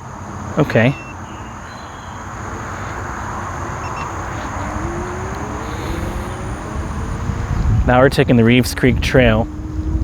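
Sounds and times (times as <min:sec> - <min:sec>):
insects buzzing: 0:00.0 - 0:10.0
wind and tyre noise: 0:00.0 - 0:10.0
electric motor whine: 0:01.0 - 0:08.0, 0:08.8 - 0:10.0.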